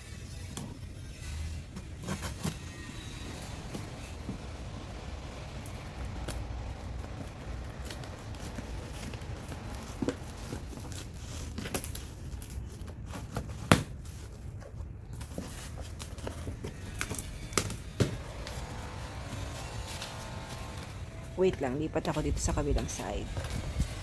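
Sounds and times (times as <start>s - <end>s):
cardboard box tearing and crinkling: 0.6s - 14.5s, 15.2s - 21.4s.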